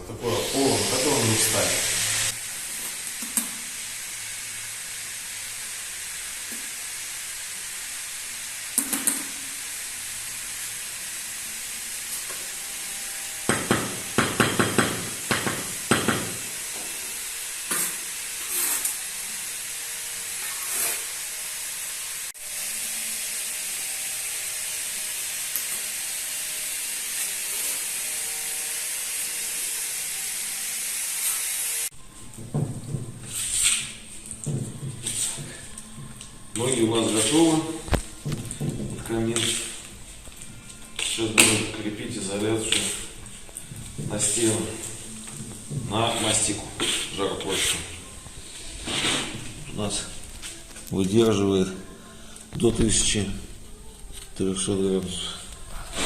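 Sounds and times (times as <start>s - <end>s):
arc welding crackling sizzle: 0.0s - 56.0s.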